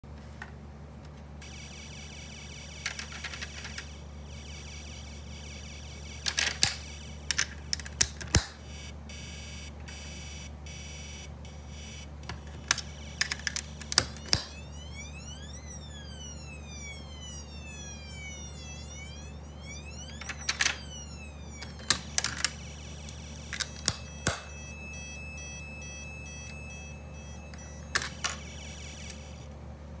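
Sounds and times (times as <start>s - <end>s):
steady low hum: 0.1s - 30.0s
electronic siren-like tones: 1.4s - 7.7s, 8.6s - 29.5s.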